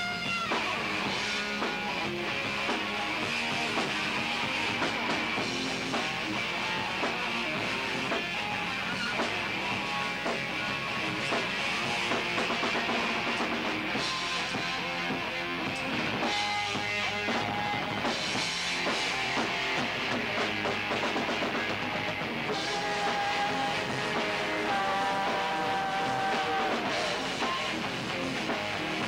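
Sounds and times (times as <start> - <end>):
bass guitar: 0.0 - 29.0
drum kit: 0.0 - 29.0
electric guitars: 0.0 - 29.0.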